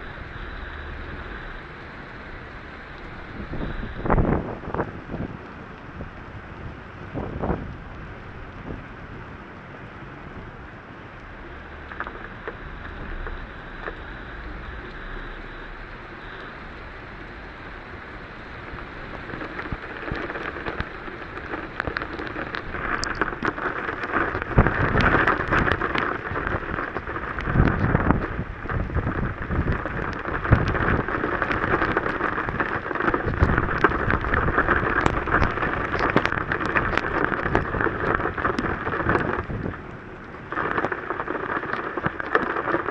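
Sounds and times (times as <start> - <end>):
deep thunder rumbles: 0.0 - 42.2
heavy rain on car: 0.0 - 42.9.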